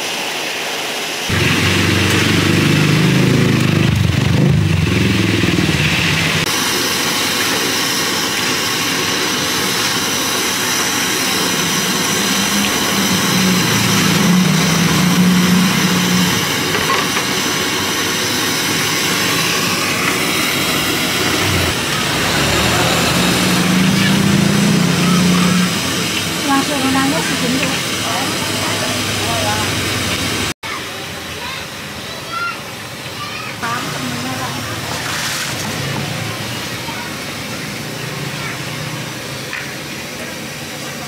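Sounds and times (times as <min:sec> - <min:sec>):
frying oil sizzling: 0:00.0 - 0:41.0.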